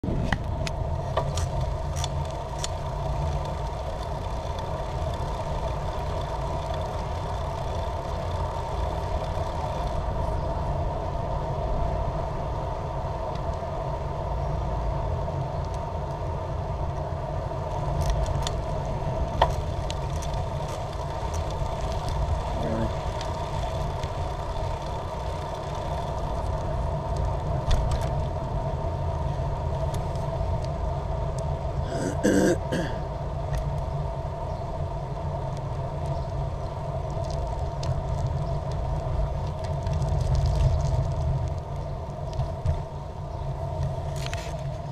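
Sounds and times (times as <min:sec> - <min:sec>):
wind noise: 0:00.0 - 0:32.0, 0:32.7 - 0:44.9
bicycle tyres rolling on pavement: 0:00.0 - 0:44.9
bicycle clicks and rattles: 0:00.3 - 0:10.8, 0:15.4 - 0:31.8, 0:33.3 - 0:44.9.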